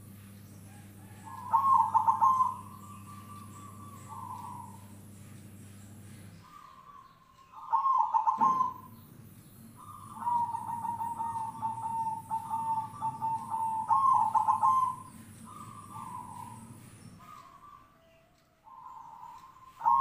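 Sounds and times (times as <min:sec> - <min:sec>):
dove cooing in trilled notes: 0:00.0 - 0:20.0
low steady hum: 0:00.0 - 0:20.0.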